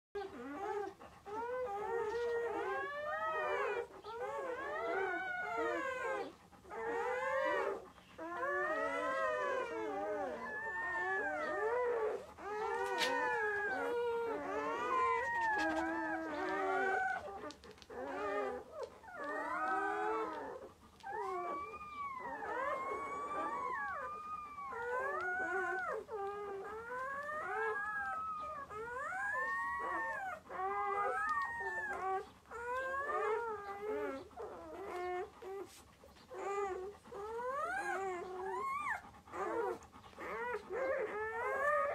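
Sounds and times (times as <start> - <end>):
puppies whining and squealing: 0.2 - 41.9.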